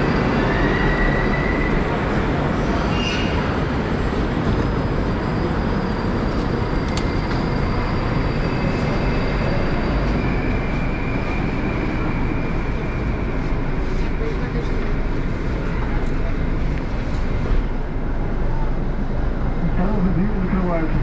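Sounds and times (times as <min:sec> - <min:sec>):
metro train standing at platform: 0:00.0 - 0:21.0.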